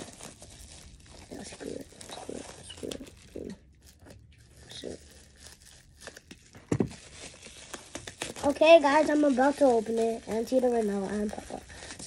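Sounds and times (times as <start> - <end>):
plastic packaging rustling and tearing: 0.0 - 12.0.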